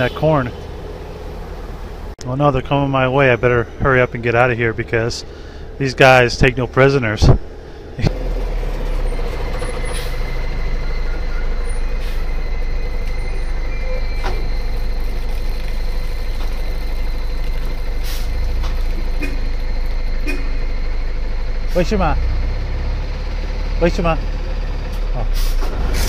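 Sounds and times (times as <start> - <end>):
thin steady whine: 0.0 - 25.3
truck engine rumble: 0.0 - 26.0.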